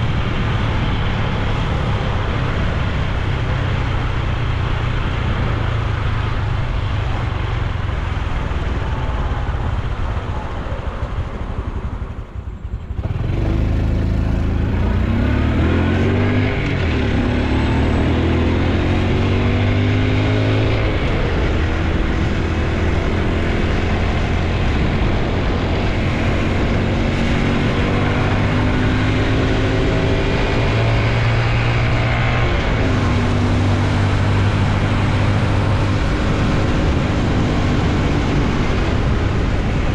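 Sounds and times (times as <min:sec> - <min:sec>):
motorcycle engine and exhaust: 0:00.0 - 0:39.9
road and wind noise: 0:00.0 - 0:39.9.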